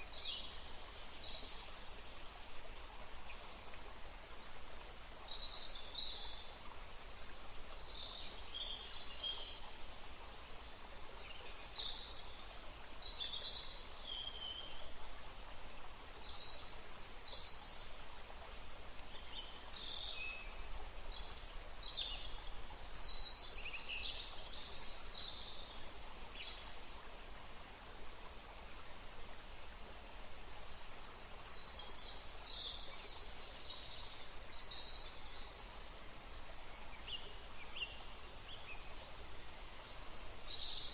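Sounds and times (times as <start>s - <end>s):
faint steady hiss: 0.0s - 40.9s
songbirds chirping: 0.0s - 40.9s.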